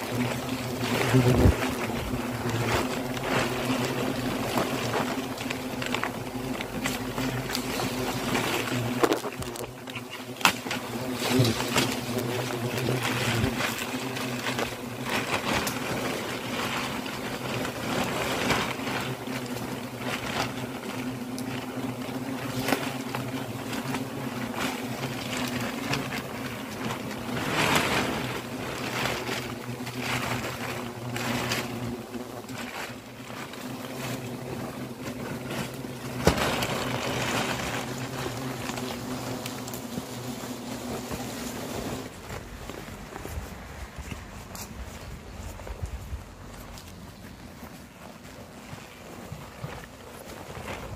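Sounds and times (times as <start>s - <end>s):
hornets buzzing: 0.0s - 50.9s
plastic bag and leaves rustling: 0.0s - 50.9s.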